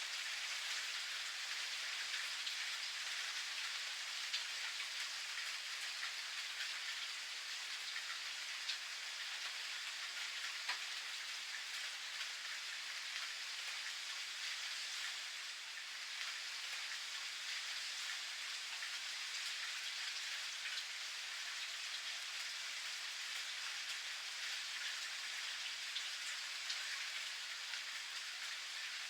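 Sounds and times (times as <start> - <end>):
steady rain pattering: 0.0 - 29.0.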